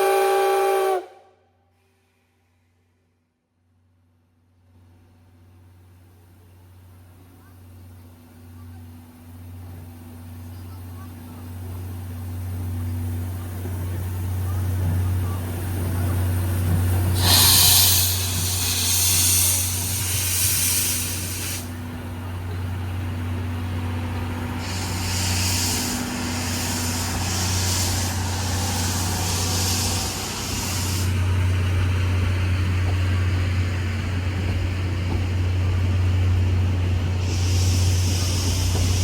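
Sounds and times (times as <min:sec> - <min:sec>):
steam locomotive hissing: 0:06.3 - 0:39.0.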